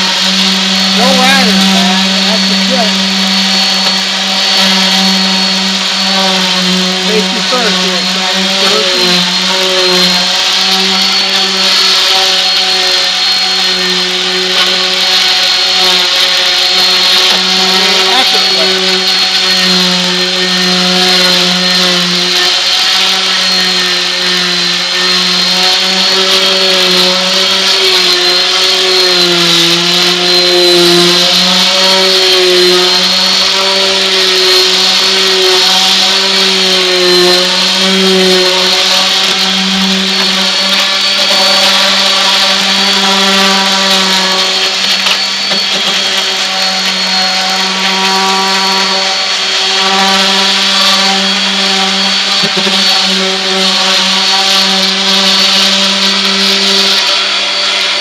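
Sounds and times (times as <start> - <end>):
orbital sander on wood: 0.0 - 58.0.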